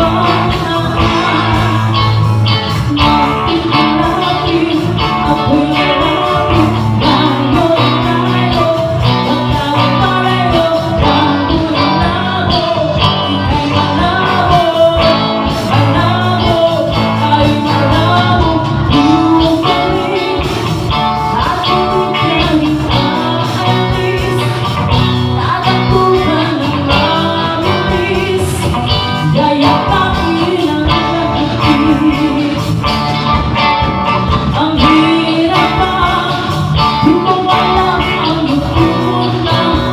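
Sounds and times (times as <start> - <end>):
guitars playing: 0.0 - 39.9
person singing: 0.0 - 39.9.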